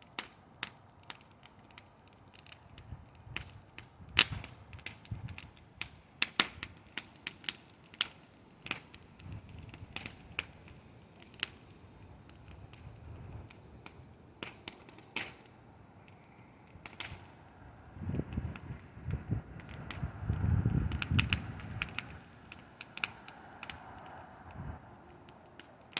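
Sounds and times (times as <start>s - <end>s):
bonfire crackling and popping: 0.0s - 25.9s.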